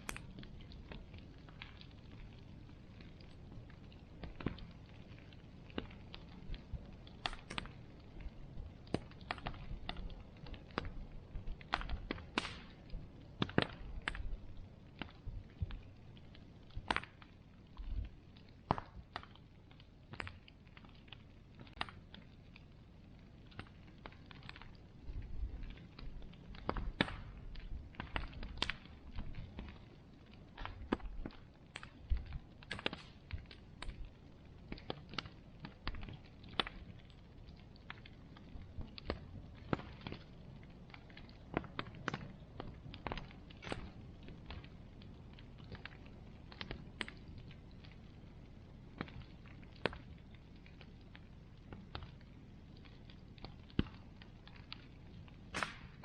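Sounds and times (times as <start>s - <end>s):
bonfire crackling: 0.0s - 56.0s
burning wood popping and snapping: 0.0s - 56.0s
low steady rumble: 0.0s - 56.0s.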